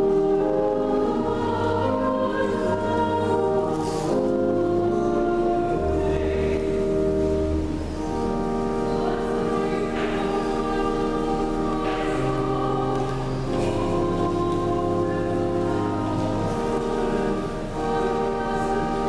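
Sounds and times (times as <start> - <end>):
choir singing: 0.0 - 19.0
church organ: 0.0 - 19.0.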